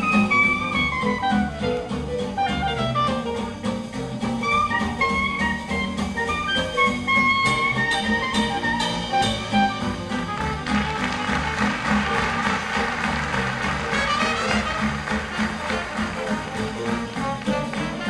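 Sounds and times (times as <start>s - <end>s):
clarinet solo: 0.0s - 3.6s, 4.4s - 12.4s, 13.8s - 18.0s
jazz band rhythm section: 0.0s - 18.0s.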